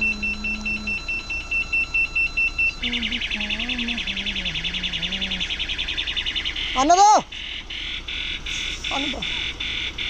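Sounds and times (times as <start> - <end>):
truck reversing alarm beeping: 0.0 - 10.0.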